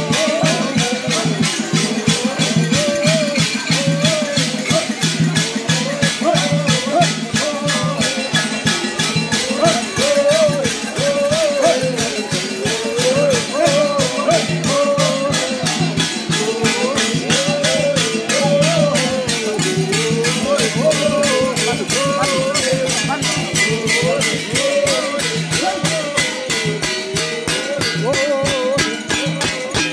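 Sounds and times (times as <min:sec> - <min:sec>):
rattling percussion beat: 0:00.0 - 0:29.9
voices chanting: 0:00.0 - 0:29.9.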